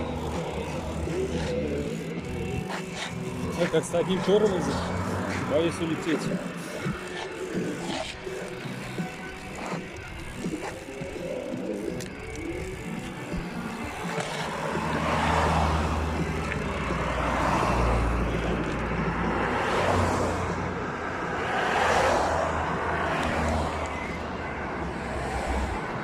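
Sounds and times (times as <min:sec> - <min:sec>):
cars passing: 0:00.0 - 0:26.0
low engine hum: 0:00.0 - 0:26.0.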